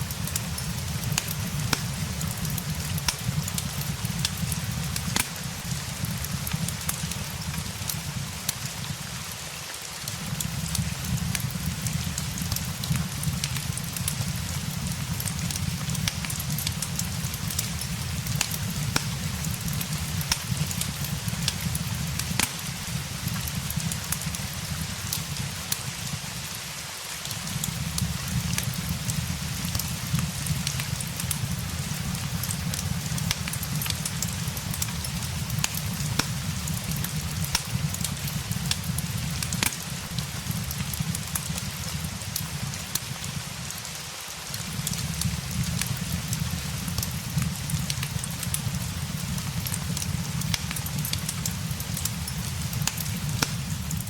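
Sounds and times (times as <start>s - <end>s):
fireplace crackling: 0.0s - 54.0s
steady rain: 0.0s - 54.0s.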